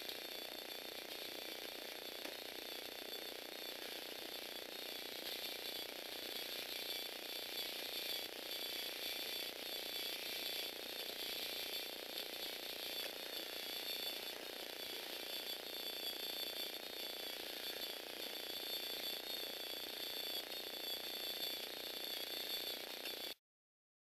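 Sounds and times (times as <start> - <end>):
electric motor whine: 0.0 - 23.4.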